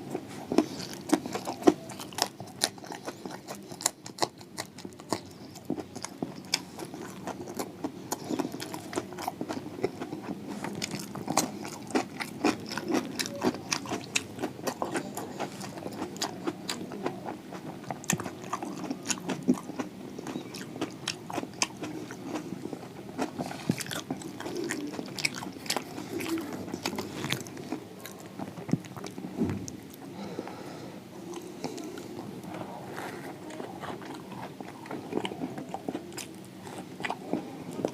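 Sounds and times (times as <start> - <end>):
person chewing crispy food: 0.0 - 37.9.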